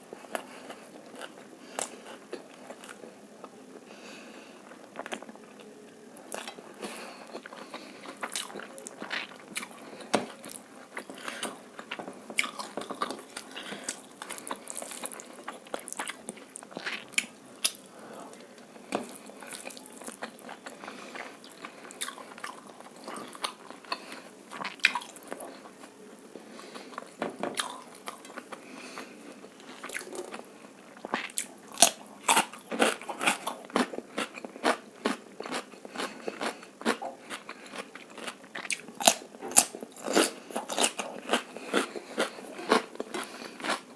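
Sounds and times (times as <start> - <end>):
chewing with crunchy bites: 0.1 - 3.9, 4.6 - 43.9.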